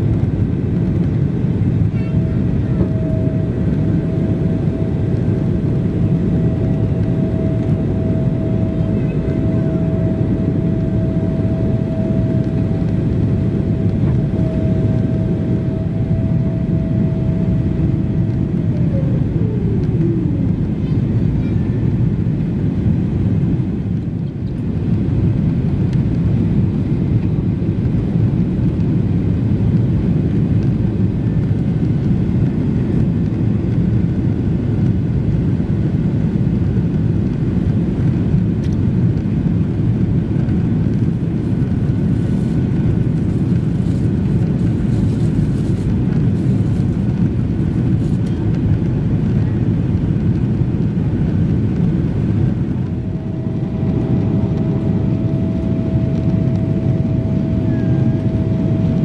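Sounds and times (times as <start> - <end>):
faint steady whine: 0.0 - 59.0
jet engine cabin rumble: 0.0 - 59.0.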